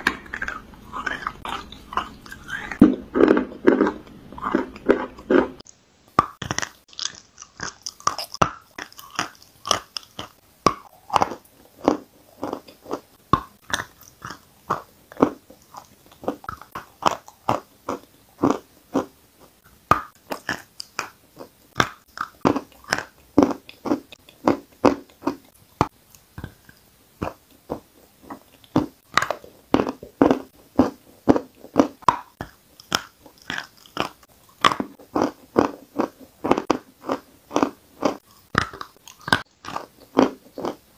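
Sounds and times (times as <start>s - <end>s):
chalk being chewed crunching: 0.0s - 5.6s, 6.2s - 40.9s.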